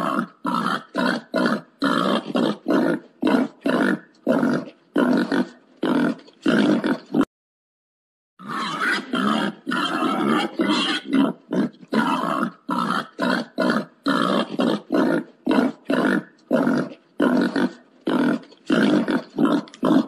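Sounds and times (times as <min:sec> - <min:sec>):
wild boar grunting and squealing: 0:00.0 - 0:07.3, 0:08.4 - 0:20.0.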